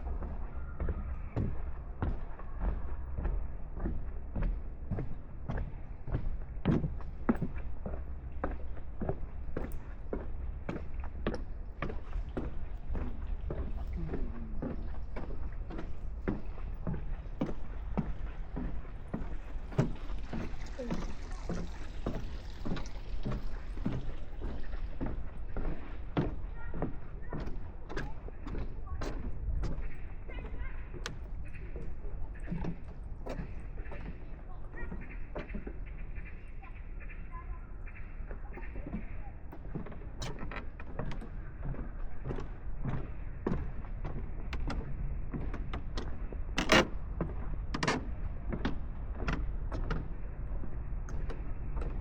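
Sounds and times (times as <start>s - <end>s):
footsteps walking: 0.0s - 52.0s.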